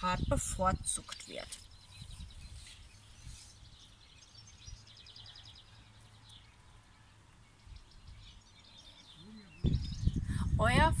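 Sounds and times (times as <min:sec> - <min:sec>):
bird trill: 0:00.0 - 0:10.3
songbirds chirping: 0:00.0 - 0:11.0.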